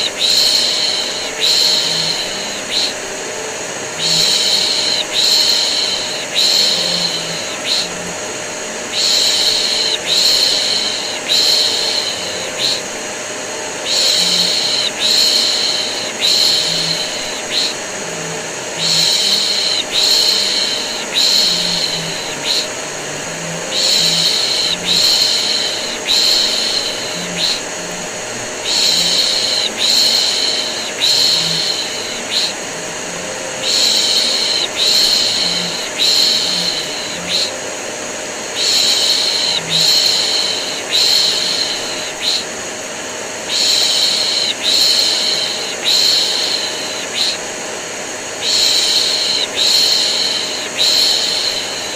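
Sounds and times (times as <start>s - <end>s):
vacuum cleaner drone: 0.0s - 51.9s.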